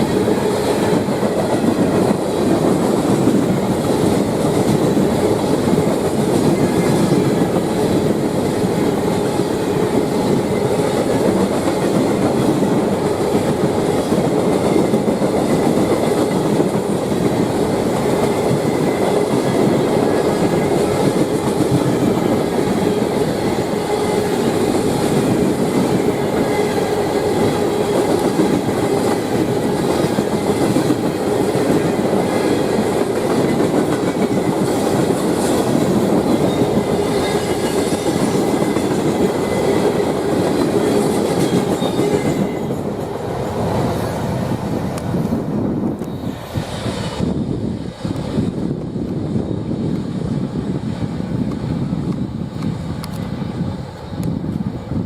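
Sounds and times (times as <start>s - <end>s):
thin ringing from train wheels: 0.0s - 44.3s
freight train wheels clattering: 0.0s - 55.0s.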